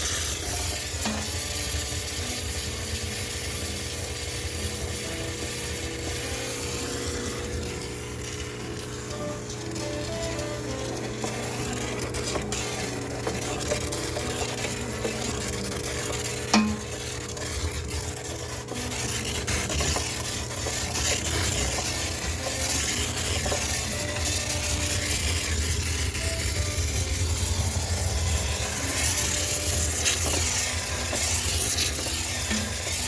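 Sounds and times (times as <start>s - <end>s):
steam cleaner hissing: 0.0s - 33.0s
low machine hum: 3.0s - 33.0s.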